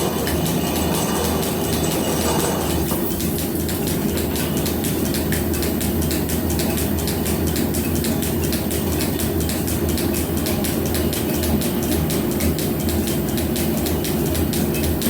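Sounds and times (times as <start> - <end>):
rapid even ticking: 0.0 - 15.0.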